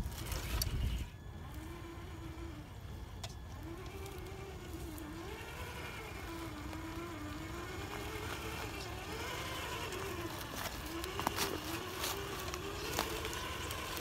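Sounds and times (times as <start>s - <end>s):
electric motor and gear whine: 0.0s - 14.0s.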